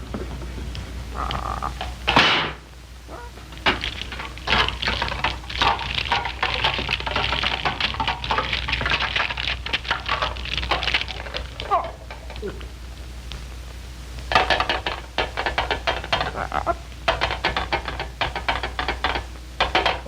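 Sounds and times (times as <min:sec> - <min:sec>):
clattering and rattling: 0:00.0 - 0:12.8, 0:14.1 - 0:20.0.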